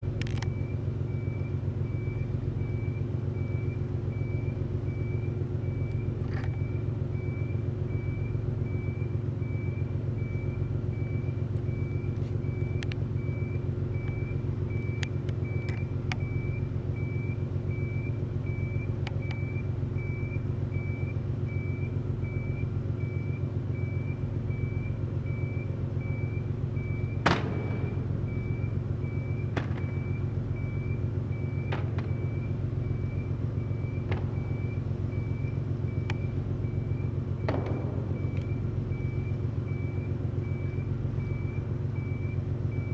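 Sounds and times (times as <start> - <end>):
low engine rumble: 0.0 - 42.9.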